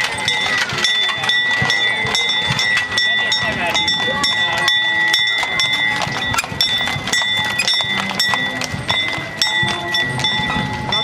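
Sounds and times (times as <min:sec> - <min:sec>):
bell ringing: 0:00.0 - 0:11.0
hooves clip-clopping on asphalt: 0:00.0 - 0:11.0.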